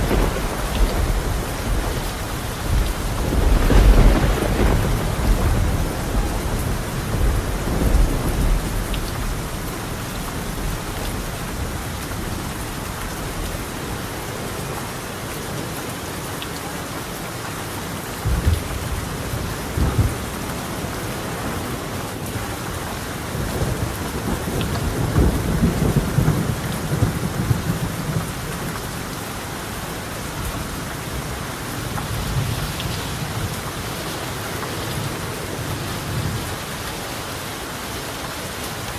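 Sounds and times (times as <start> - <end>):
thunder rumbling: 0.0 - 14.0, 18.2 - 36.8
heavy rain on a tiled roof: 0.0 - 38.9.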